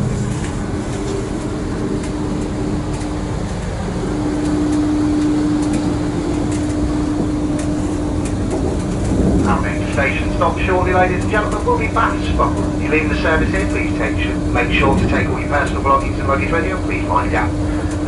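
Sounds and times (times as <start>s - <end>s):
constant hum: 0.0s - 18.0s
running train rumble: 0.0s - 18.0s.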